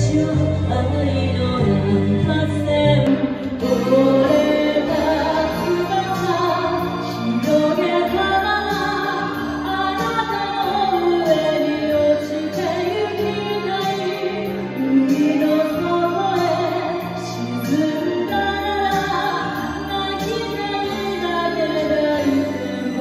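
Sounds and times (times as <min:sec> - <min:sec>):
backing track: 0:00.0 - 0:23.0
woman singing a slow ballad: 0:00.0 - 0:23.0.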